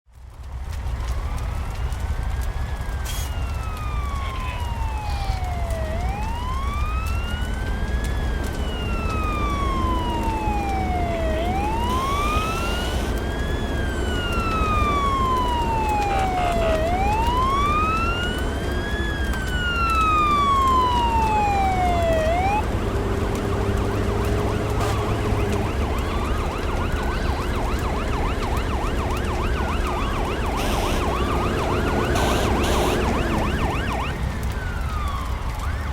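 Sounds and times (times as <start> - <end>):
fire engine siren wailing: 0.1 - 35.9.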